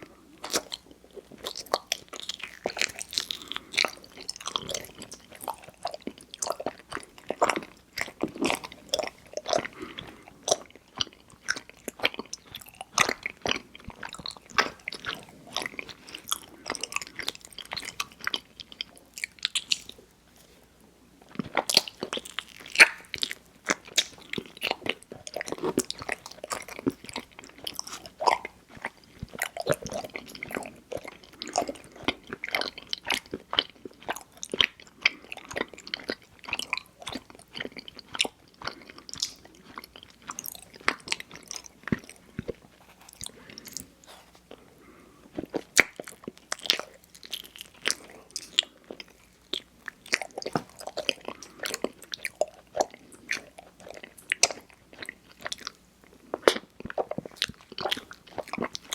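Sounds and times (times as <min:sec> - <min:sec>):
person chewing wet mouth sounds: 0:00.0 - 0:20.2, 0:21.2 - 0:58.9.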